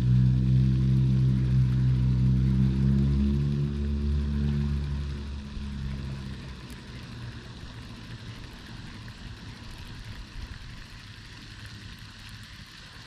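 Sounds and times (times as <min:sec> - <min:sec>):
low engine hum: 0:00.0 - 0:13.0
low rumble and hiss: 0:00.0 - 0:13.0.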